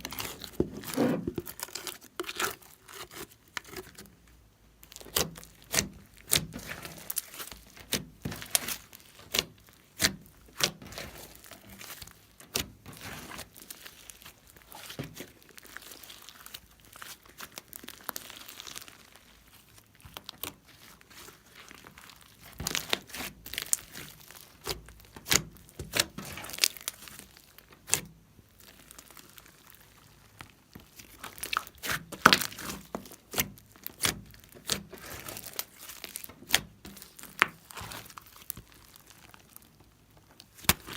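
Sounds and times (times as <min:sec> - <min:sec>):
crinkly crackling handling noise: 0:00.0 - 0:40.9.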